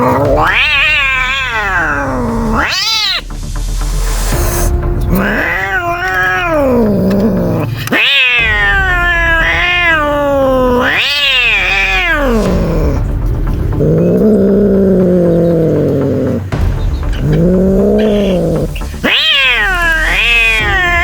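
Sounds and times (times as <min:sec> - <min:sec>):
cat yowling: 0:00.0 - 0:03.3, 0:05.1 - 0:13.0, 0:13.8 - 0:16.5, 0:17.1 - 0:21.0.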